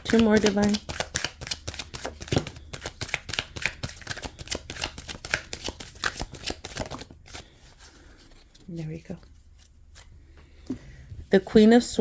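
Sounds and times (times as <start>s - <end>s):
cards being shuffled: 0.0s - 10.1s.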